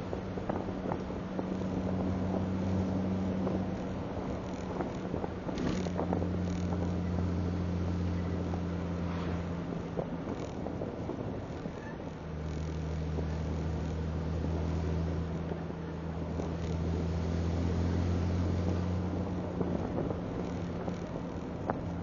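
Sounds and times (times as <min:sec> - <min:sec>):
car engine cruising: 0:00.0 - 0:22.0
road and wind noise: 0:00.0 - 0:22.0.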